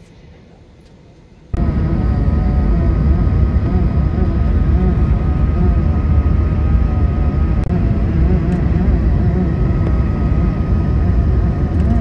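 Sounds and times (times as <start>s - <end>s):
airliner cabin low rumble: 0.0s - 12.0s
thin steady whine: 0.0s - 12.0s.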